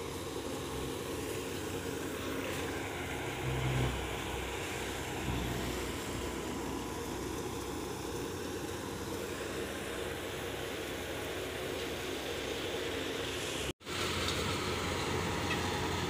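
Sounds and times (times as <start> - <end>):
tractor engine driving thresher: 0.0 - 16.0.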